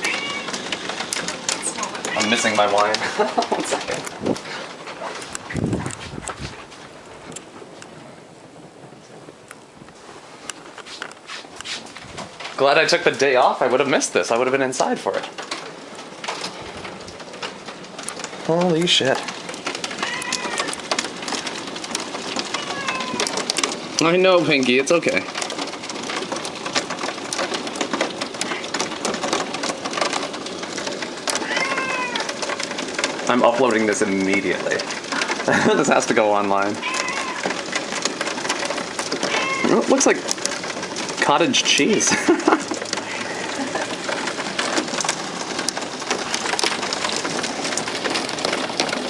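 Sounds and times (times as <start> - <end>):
hail clattering: 0.0 - 49.0
heavy rain: 0.0 - 49.0.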